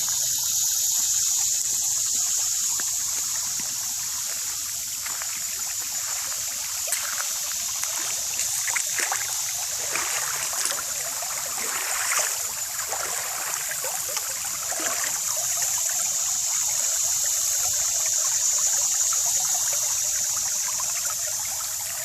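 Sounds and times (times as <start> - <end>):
creek water trickling: 0.0 - 22.0.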